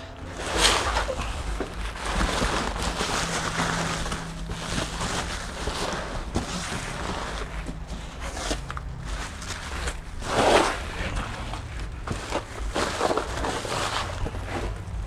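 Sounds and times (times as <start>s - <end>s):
packing material rustling and crinkling: 0.0s - 15.0s.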